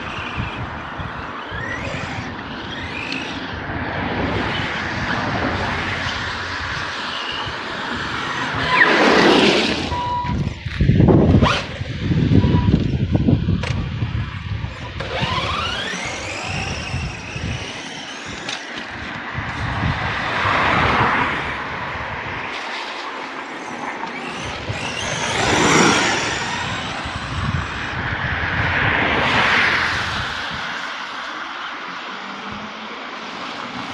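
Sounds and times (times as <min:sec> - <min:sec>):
electric motor whining: 0:00.0 - 0:33.9.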